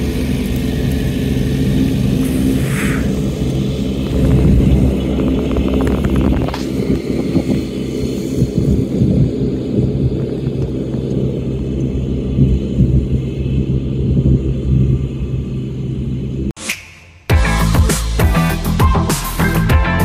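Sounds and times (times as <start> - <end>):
tractor engine droning: 0.0 - 16.6.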